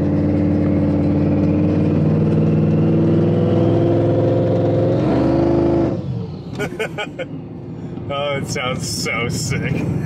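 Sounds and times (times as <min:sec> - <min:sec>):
truck engine at part throttle: 0:00.0 - 0:10.0.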